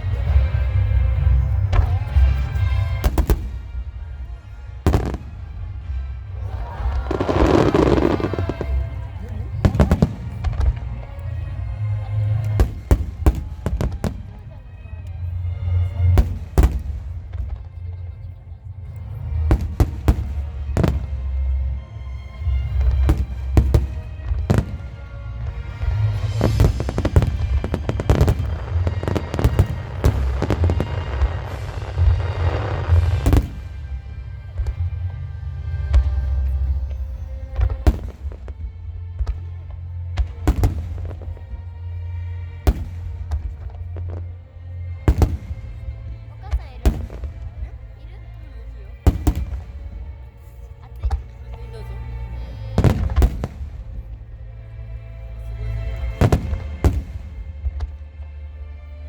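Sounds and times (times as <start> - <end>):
deep rumble: 0.0 - 58.7
music: 0.0 - 59.0
fireworks booming: 1.6 - 11.4, 12.0 - 14.7, 15.9 - 17.7, 19.3 - 48.0, 48.9 - 50.2, 52.7 - 54.4, 56.0 - 57.9.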